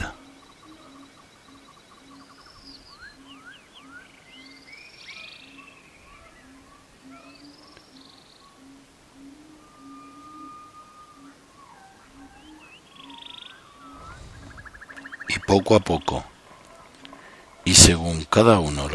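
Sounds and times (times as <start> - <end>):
birdsong chirps: 0.0 - 18.9.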